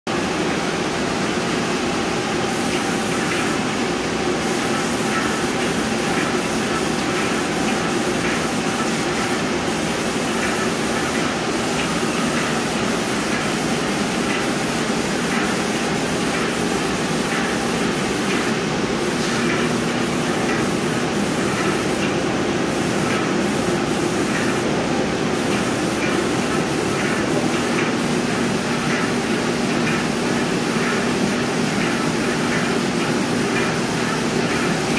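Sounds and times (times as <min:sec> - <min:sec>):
spray gun hissing: 0:02.4 - 0:34.9.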